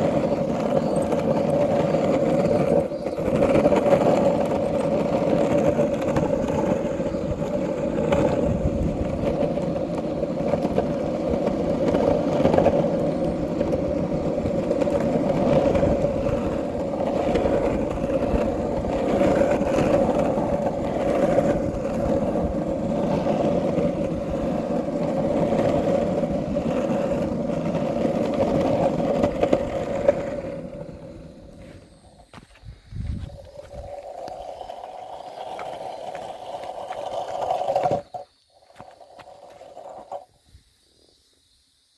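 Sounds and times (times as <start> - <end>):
longboard wheels rolling on asphalt: 0.0 - 41.9.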